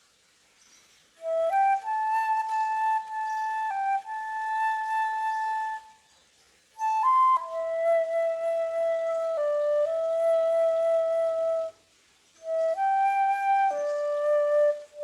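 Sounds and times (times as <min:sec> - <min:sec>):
solo flute melody: 0:01.2 - 0:06.2, 0:06.8 - 0:15.0.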